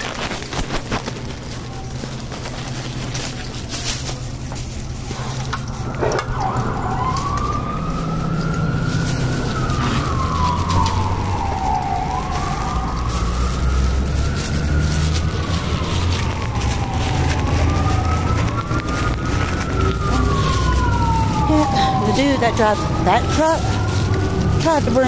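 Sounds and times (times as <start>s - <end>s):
emergency siren wailing: 4.9s - 25.0s.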